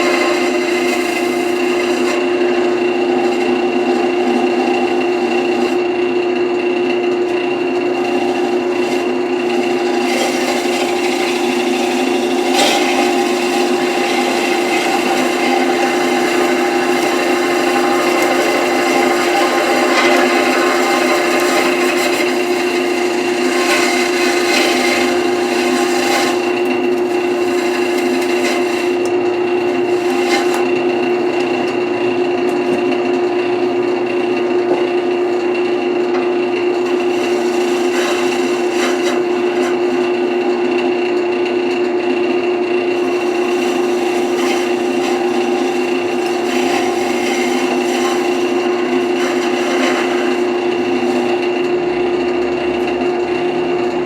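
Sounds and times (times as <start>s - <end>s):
tool scraping spinning wood: 0.0s - 54.0s
wood lathe humming: 0.0s - 54.0s.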